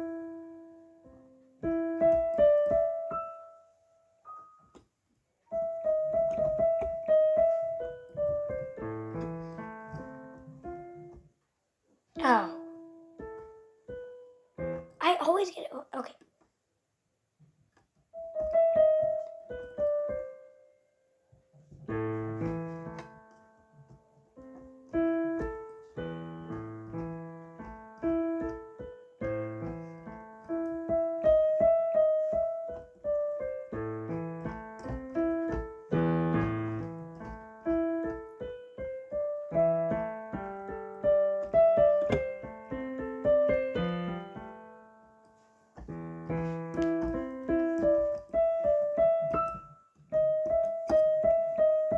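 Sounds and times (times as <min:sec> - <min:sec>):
piano piece: 0:00.0 - 0:15.6, 0:17.9 - 0:51.9.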